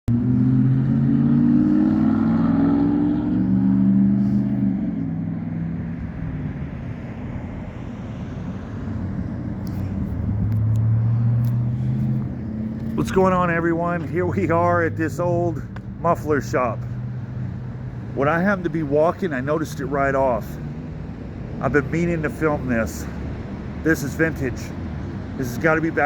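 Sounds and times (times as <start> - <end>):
traffic car engines: 0.1 - 26.0.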